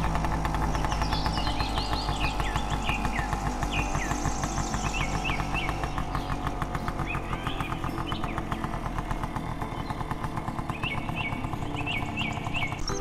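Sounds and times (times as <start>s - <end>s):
motorbike engine running: 0.0s - 13.0s
bird chirps: 0.6s - 8.9s, 9.6s - 13.0s.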